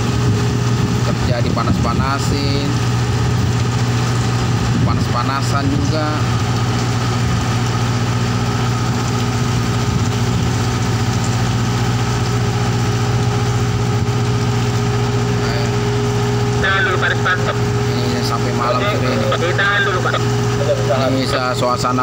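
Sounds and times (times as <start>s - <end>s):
large engine droning: 0.0s - 22.0s.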